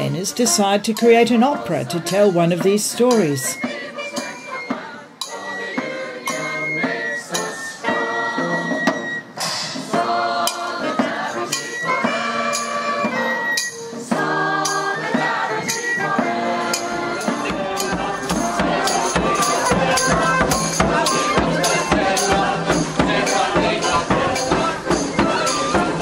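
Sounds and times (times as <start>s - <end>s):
percussive beat: 0.0s - 8.2s, 8.9s - 26.0s
choir singing: 0.0s - 26.0s.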